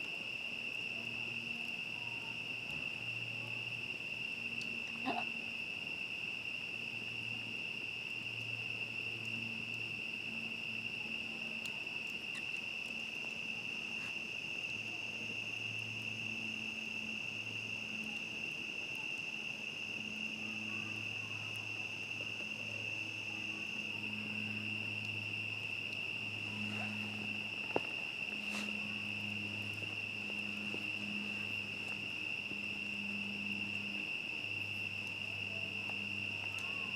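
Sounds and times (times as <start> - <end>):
campfire crackles: 0.0 - 36.9
crickets trilling: 0.0 - 36.9.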